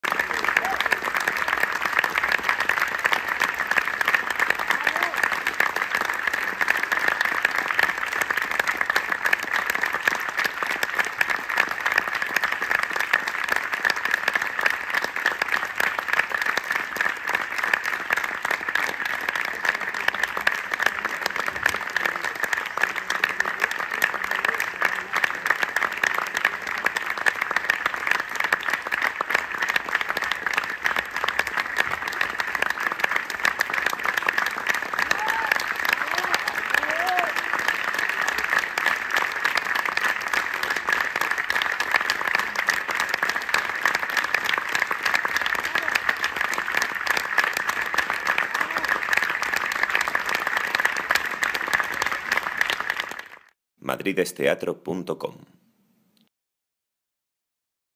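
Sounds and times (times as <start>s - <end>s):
audience applauding: 0.0s - 53.6s.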